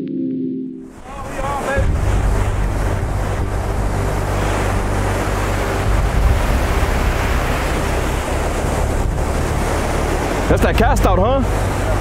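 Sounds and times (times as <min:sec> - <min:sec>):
surf breaking on shore: 0:00.9 - 0:12.0
wind buffeting microphone: 0:00.9 - 0:12.0.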